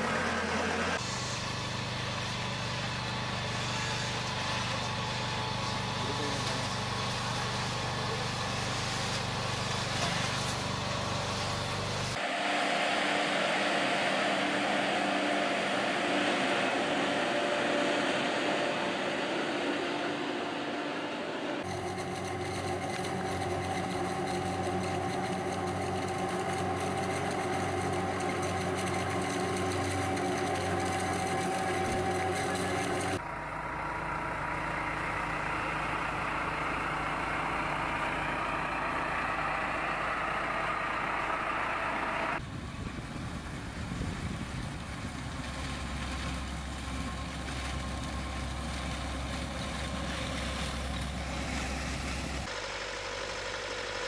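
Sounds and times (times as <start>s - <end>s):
harvester elevator carrying crop: 0.0s - 54.0s
harvesting machinery humming: 0.0s - 54.0s.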